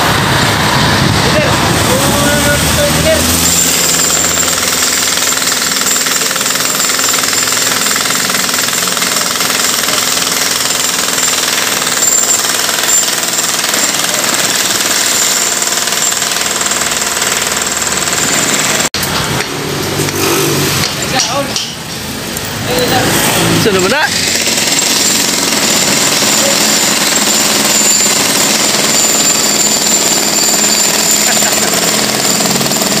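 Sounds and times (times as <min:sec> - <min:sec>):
jackhammer breaking concrete: 0:00.0 - 0:19.4, 0:23.7 - 0:33.0.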